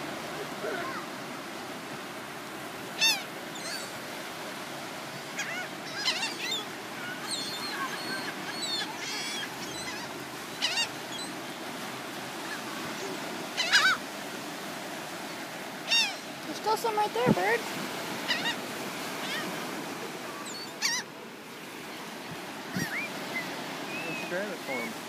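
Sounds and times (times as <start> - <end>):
gulls calling: 0.1 - 25.0.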